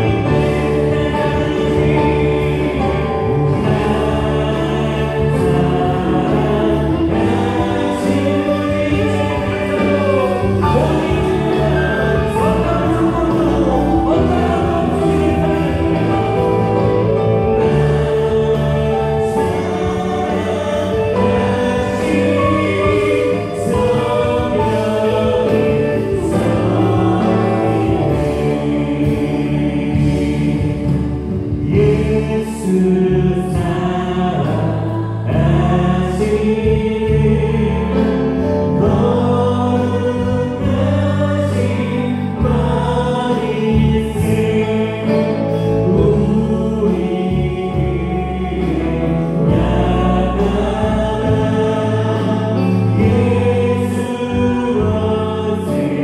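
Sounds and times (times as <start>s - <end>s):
drums: 0.0s - 56.0s
electric bass: 0.0s - 56.0s
group of singers: 0.0s - 56.0s
keyboard: 0.0s - 56.0s.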